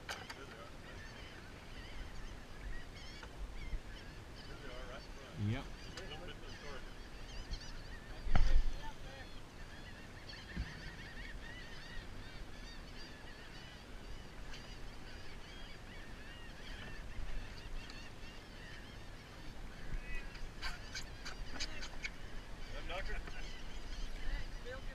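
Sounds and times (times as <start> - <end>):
seabirds calling: 0.0 - 24.9.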